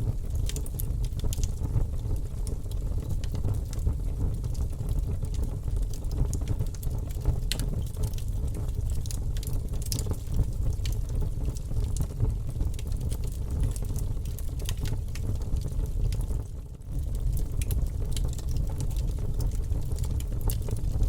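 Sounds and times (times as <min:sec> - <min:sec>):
burning wood crackling and popping: 0:00.0 - 0:21.0
campfire flames rumbling: 0:00.0 - 0:21.0.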